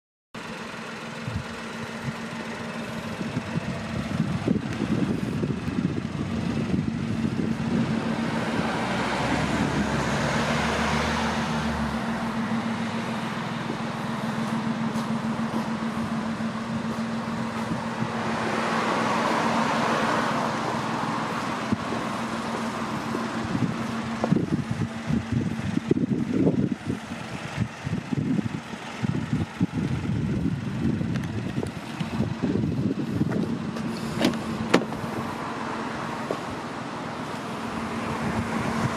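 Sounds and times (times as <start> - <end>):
passing traffic: 0.4 - 38.9.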